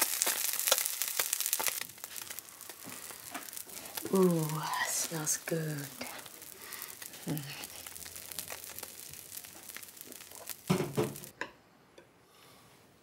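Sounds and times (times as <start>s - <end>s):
food sizzling in a frying pan: 0.0s - 11.3s.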